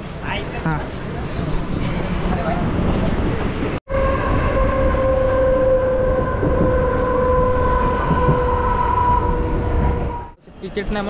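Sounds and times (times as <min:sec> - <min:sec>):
train rumble: 0:00.0 - 0:10.4.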